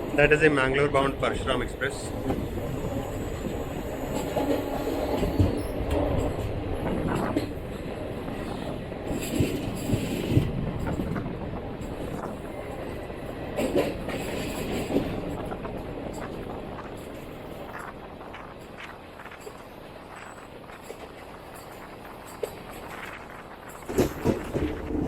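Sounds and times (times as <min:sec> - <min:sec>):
train rumbling on rails: 0:00.0 - 0:25.0
wheels clacking over rail joints: 0:01.7 - 0:25.0.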